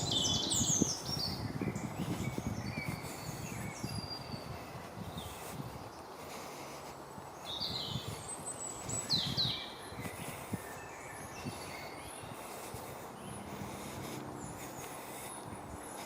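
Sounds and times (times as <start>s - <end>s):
birds calling and singing: 0.0s - 16.0s.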